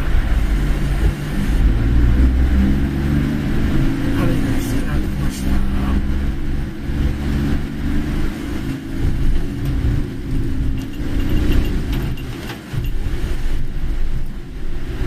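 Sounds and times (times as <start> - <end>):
engine and tyres on wet road: 0.0 - 15.0
heavy rain hitting car: 0.0 - 15.0.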